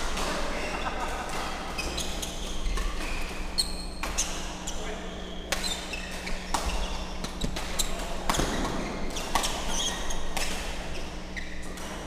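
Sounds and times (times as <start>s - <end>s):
shoes squeaking on court: 0.6s - 12.0s.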